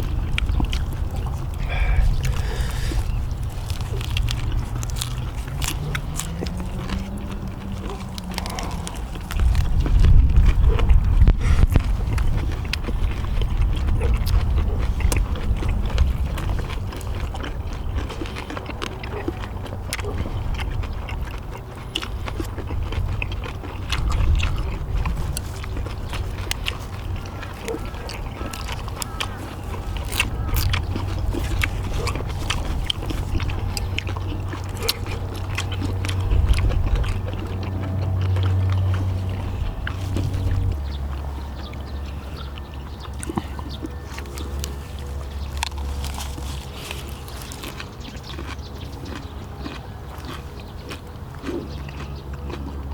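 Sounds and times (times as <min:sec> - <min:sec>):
people chewing: 0:00.0 - 0:52.9
steady low rumble: 0:00.0 - 0:52.9.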